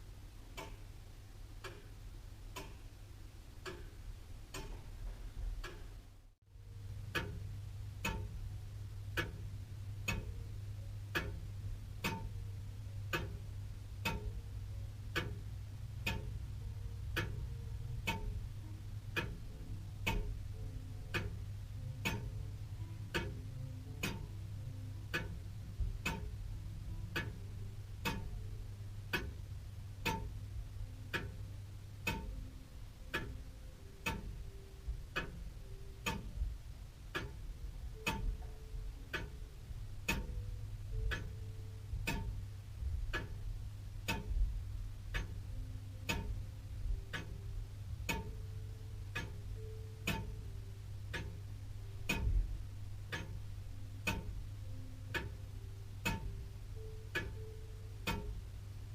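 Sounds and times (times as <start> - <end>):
clock ticking: 0.0 - 1.0, 1.6 - 3.0, 3.6 - 6.1, 6.8 - 58.9
low steady hum: 0.0 - 58.9.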